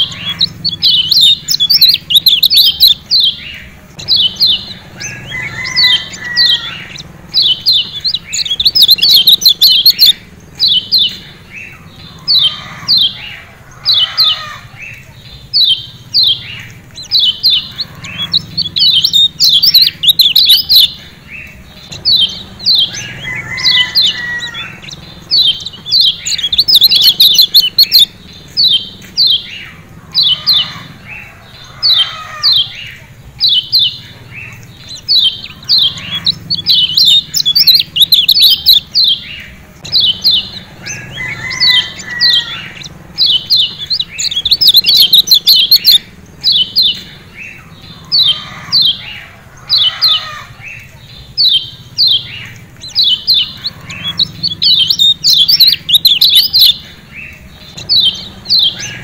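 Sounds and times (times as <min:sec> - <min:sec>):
bird chirping sharply: 0:00.0 - 0:31.1, 0:31.8 - 0:59.0.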